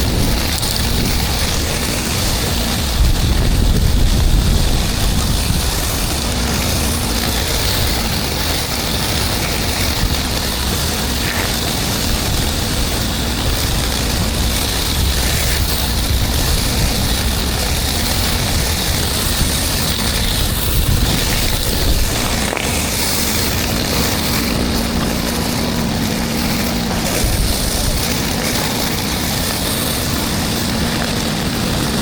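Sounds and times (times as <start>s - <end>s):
pressure washer engine rumble: 0.0s - 32.0s
water spraying concrete: 0.0s - 32.0s.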